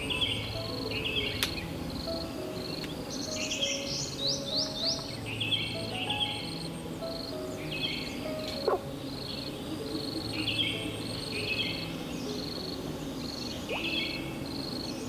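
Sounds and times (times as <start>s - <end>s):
insects chirping: 0.0s - 15.0s
soft low music notes: 0.0s - 15.0s
birds chirping: 2.4s - 15.0s.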